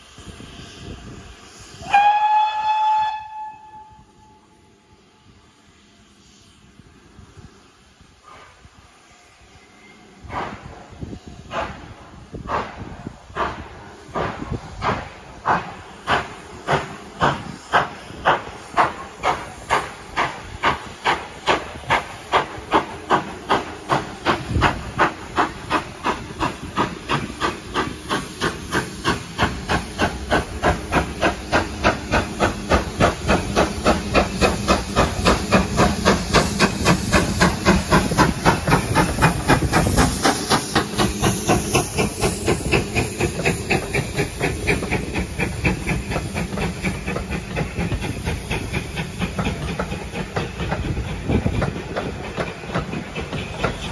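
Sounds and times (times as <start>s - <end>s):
steam hiss: 0.0s - 53.9s
steam locomotive exhaust chuffing: 0.0s - 53.9s.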